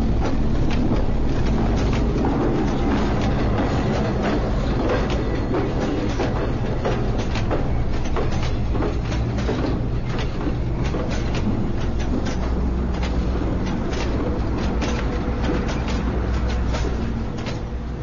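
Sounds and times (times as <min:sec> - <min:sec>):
train rumbling on rails: 0:00.0 - 0:18.0
wheels and couplings clanking: 0:00.0 - 0:18.0.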